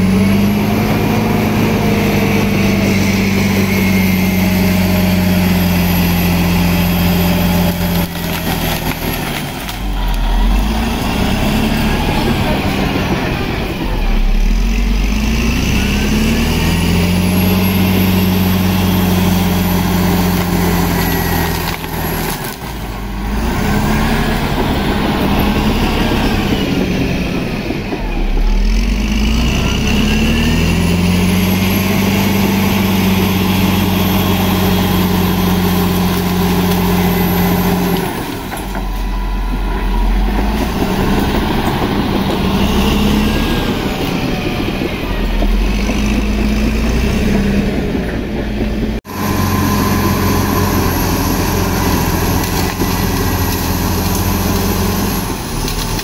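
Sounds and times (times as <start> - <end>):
bulldozer diesel engine revving: 0.0 - 56.0.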